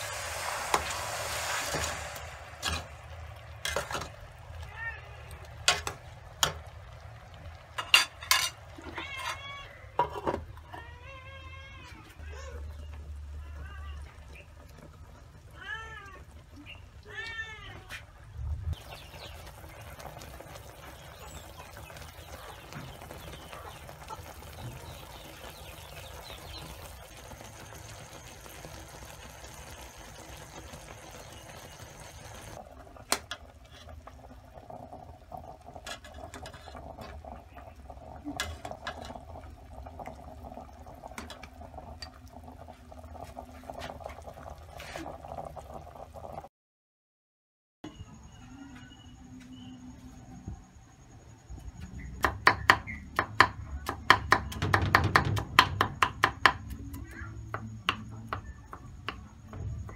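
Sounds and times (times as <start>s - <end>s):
sauce bubbling and sizzling in pot: 0.0s - 46.5s, 51.4s - 59.9s.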